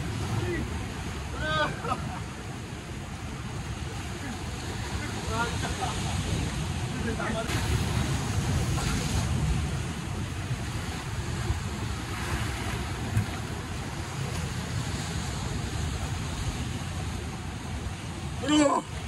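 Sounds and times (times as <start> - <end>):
sea waves breaking on rocks: 0.0 - 19.0
wind rumbling on microphone: 0.0 - 19.0.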